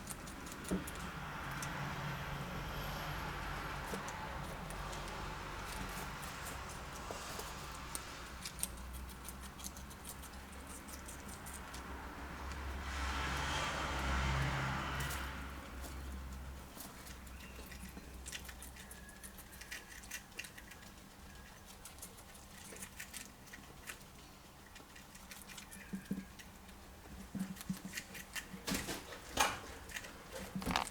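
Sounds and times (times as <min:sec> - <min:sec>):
guinea pigs munching: 0:00.0 - 0:30.9.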